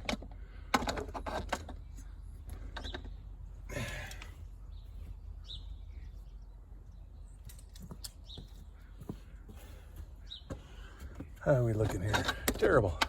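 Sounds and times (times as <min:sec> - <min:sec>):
bird chirping: 0:01.7 - 0:13.0.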